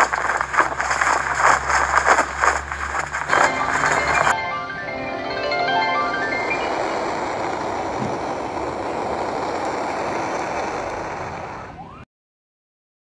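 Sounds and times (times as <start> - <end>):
steady rushing noise: 0.0 - 11.8.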